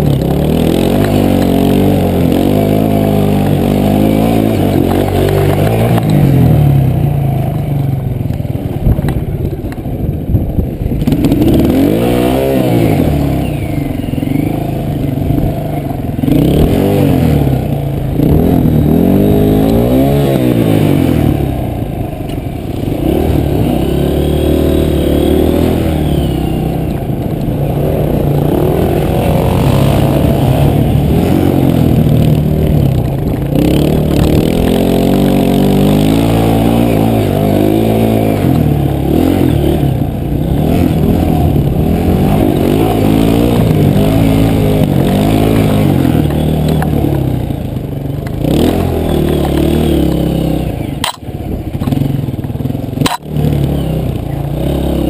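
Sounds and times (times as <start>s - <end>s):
dirt bike engine revving: 0.0s - 8.0s, 10.8s - 55.0s.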